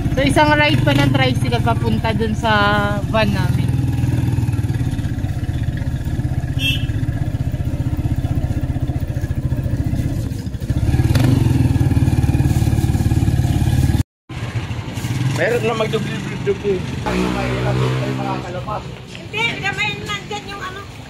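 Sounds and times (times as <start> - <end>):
small motorcycle engine running: 0.0 - 18.6.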